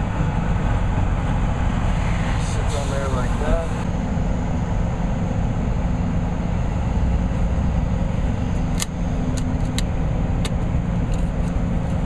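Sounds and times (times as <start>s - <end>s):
vehicle engines idling: 0.0s - 12.0s.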